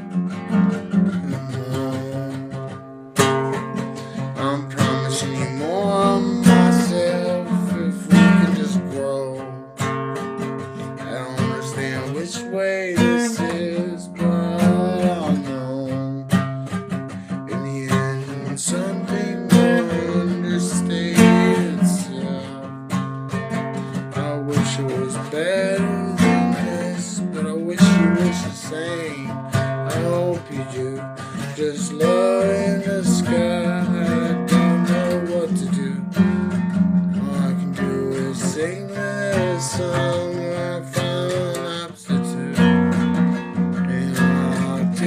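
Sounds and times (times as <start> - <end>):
acoustic guitar strummed and picked: 0.0 - 45.0.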